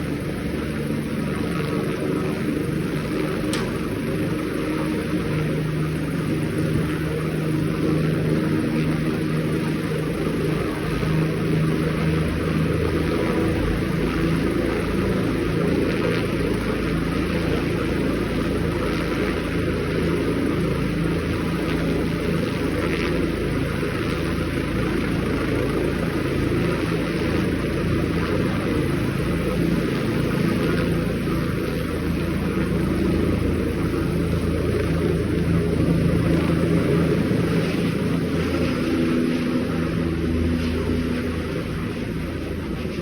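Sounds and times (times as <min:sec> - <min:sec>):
helicopter drone: 0:00.0 - 0:43.0.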